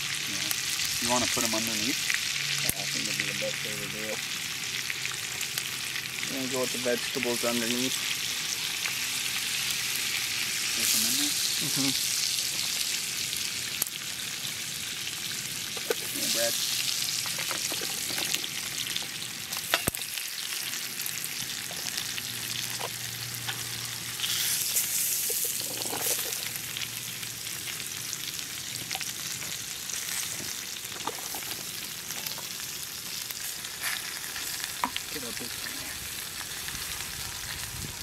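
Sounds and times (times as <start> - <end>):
juices sizzling in a pot: 0.0 - 38.0.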